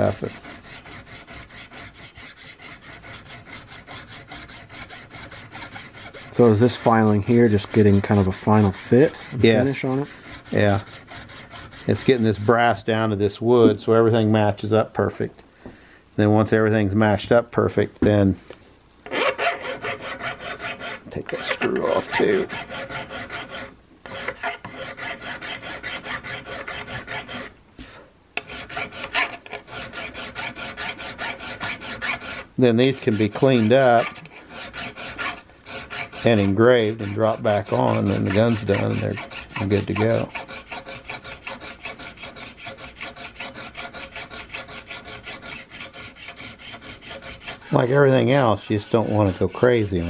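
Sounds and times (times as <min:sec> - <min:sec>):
hand file rasping brass: 0:00.0 - 0:13.1, 0:19.1 - 0:50.0.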